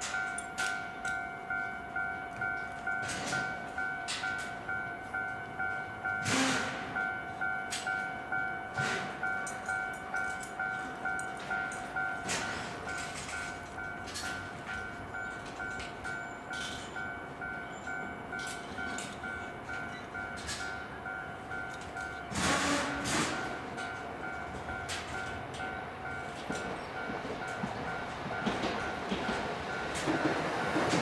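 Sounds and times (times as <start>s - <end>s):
level crossing alarm ringing: 0.0s - 31.0s
tram passing: 0.0s - 31.0s.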